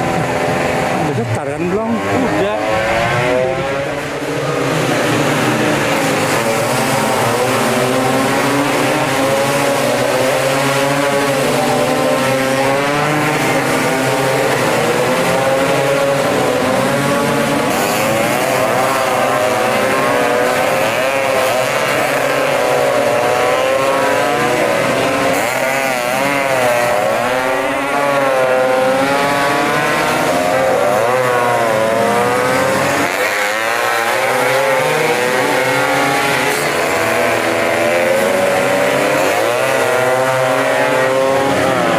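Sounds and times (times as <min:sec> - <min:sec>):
scooter engines screaming: 0:00.0 - 0:41.9.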